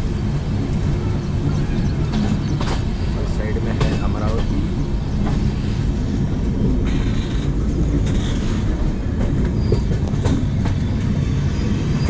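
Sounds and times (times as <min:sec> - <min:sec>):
train wheels rumbling on rails: 0:00.0 - 0:12.0
wheels clicking over rail joints: 0:00.5 - 0:05.6, 0:06.5 - 0:11.0.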